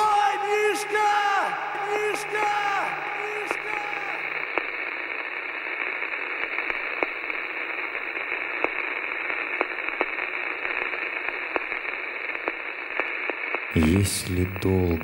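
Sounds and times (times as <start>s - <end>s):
static crackles: 0.0s - 15.0s
radio static hiss: 1.6s - 15.0s.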